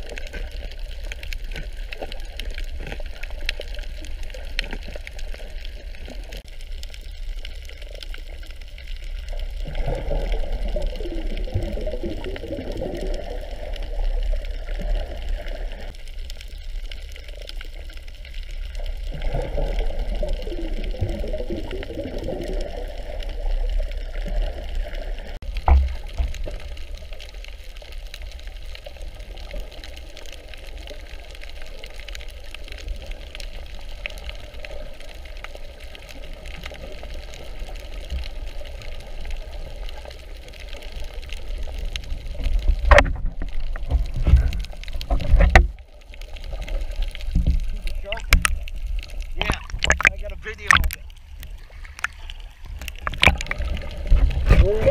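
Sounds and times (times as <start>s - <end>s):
underwater low rumble: 0.0s - 54.9s
water noise: 0.0s - 54.9s.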